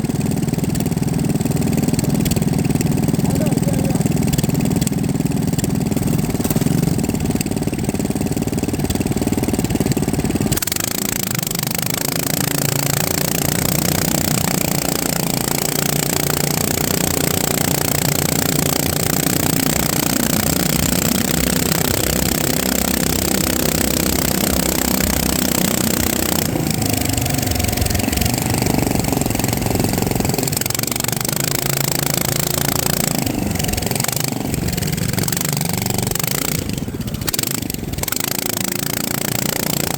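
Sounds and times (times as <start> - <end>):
motor running steadily: 0.0 - 39.9.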